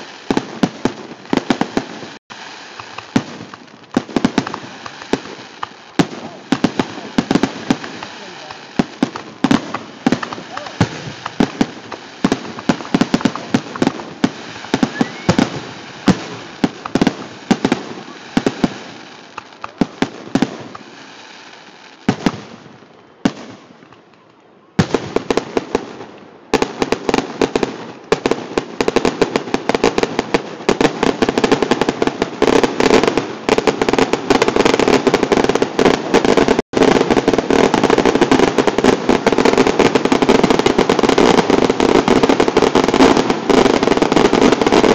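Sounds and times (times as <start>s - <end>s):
fireworks bangs and crackle: 0.0s - 44.9s.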